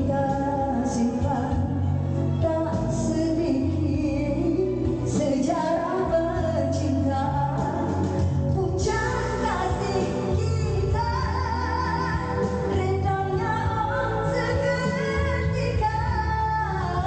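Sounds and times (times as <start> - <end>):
pop music accompaniment: 0.0 - 17.0
woman singing into a microphone: 0.0 - 17.0.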